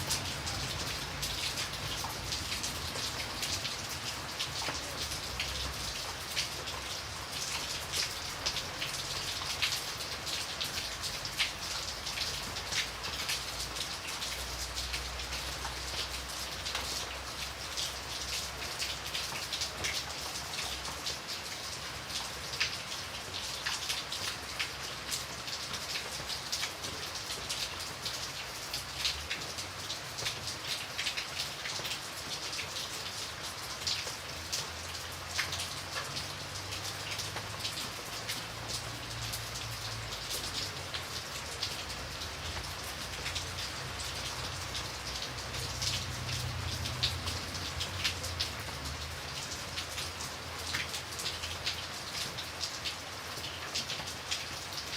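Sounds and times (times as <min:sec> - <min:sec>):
rain drops pattering: 0:00.0 - 0:54.9
rain hiss: 0:00.0 - 0:54.9.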